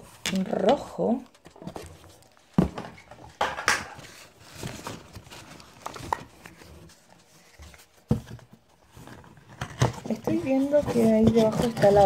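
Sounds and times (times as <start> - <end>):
packaging rustling: 1.3 - 12.0.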